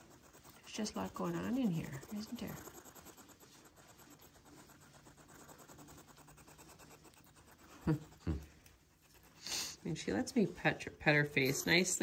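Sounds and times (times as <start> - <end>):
hedgehog scratching and rustling: 0.0 - 12.0.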